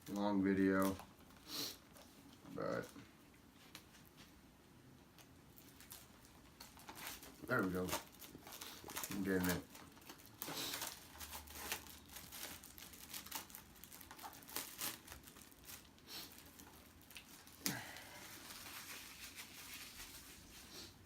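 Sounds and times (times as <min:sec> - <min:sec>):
plastic shrink wrap crinkling and tearing: 0:00.0 - 0:03.0, 0:05.2 - 0:21.0.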